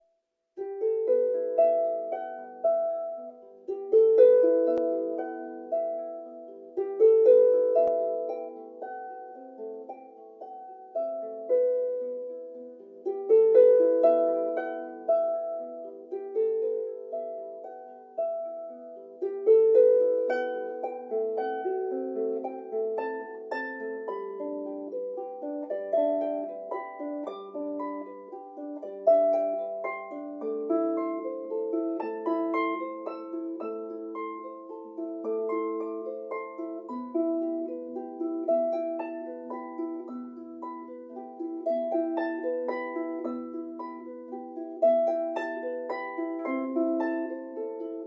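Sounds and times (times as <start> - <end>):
plucked instrument melody: 0.6 - 48.0.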